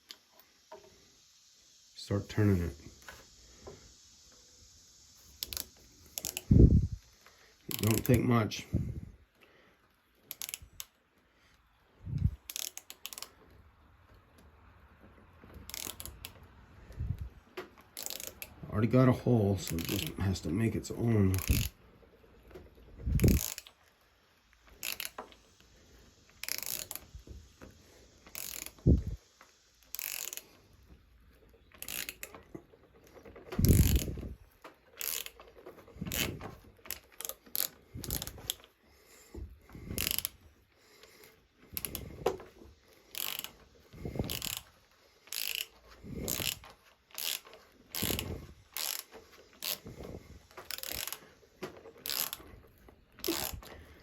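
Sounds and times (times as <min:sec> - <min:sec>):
ratcheting wrench clicking: 0:05.2 - 0:08.4, 0:10.2 - 0:11.0, 0:12.0 - 0:13.7, 0:15.5 - 0:54.0.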